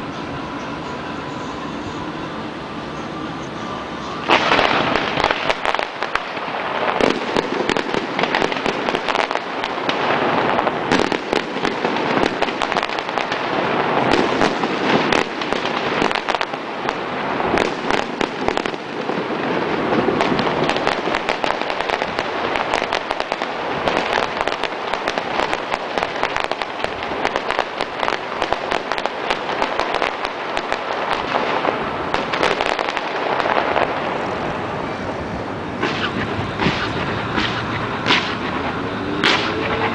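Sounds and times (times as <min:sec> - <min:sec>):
fireworks bangs and crackling: 0:03.4 - 0:39.9.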